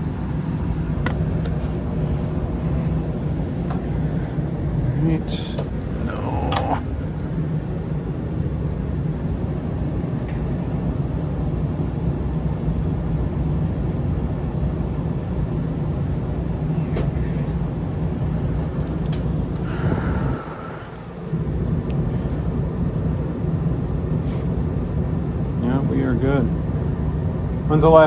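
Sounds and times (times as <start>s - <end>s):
gas furnace hum and rush: 0.0s - 28.0s.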